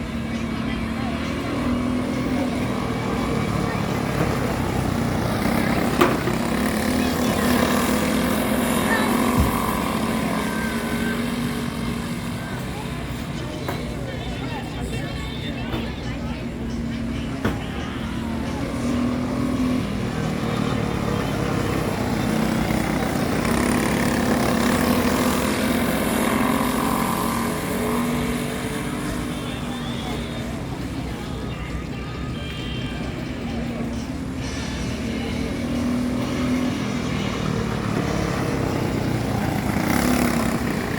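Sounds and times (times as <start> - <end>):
kart engines running: 0.0 - 40.9.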